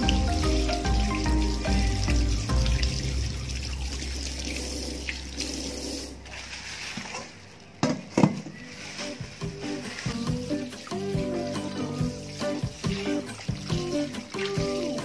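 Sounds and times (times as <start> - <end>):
water running from tap: 0.0 - 7.1, 8.8 - 15.0
hands rinsed under water: 0.0 - 7.3, 8.8 - 15.0.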